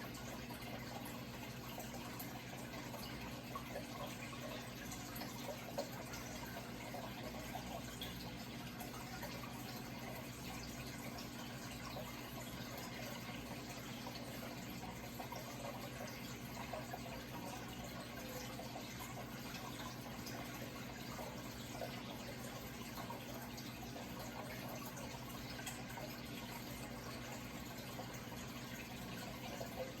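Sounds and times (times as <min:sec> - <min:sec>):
running water trickling and splashing: 0:00.0 - 0:30.0.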